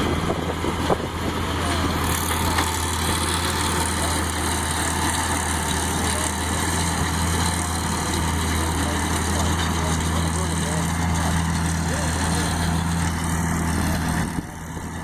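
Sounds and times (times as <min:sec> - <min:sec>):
baler working: 0:00.0 - 0:15.0
tractor engine humming: 0:00.0 - 0:15.0.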